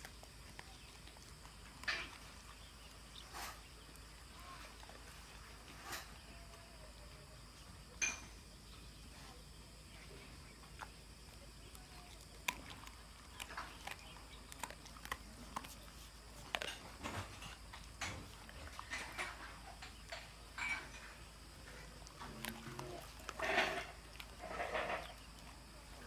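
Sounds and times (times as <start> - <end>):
dog crunching bones: 0.0 - 6.2, 10.6 - 26.0.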